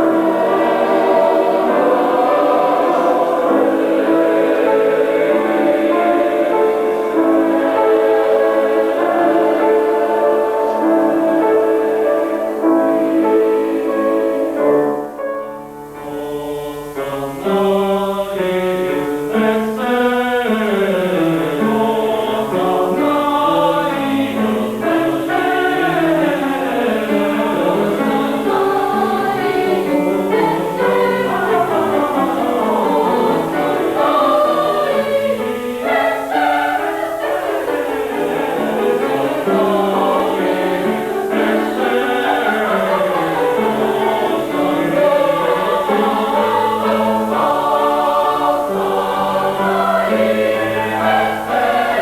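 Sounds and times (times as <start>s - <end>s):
boys choir singing in parts: 0.0s - 15.2s, 15.8s - 52.0s.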